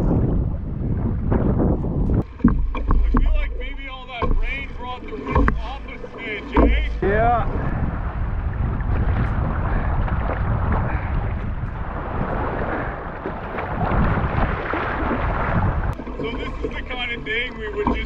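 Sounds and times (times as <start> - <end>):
choppy river water splashing: 0.0 - 18.0
wind buffeting microphone: 0.0 - 18.0.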